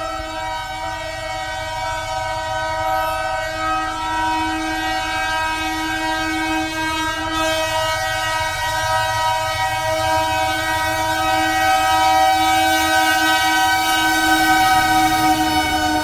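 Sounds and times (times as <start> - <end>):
locomotive air horn: 0.0 - 16.0
locomotive rumble: 0.0 - 16.0.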